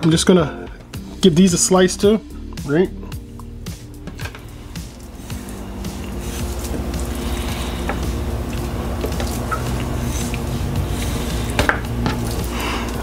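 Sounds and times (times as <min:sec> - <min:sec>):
steady low background: 0:00.5 - 0:13.0.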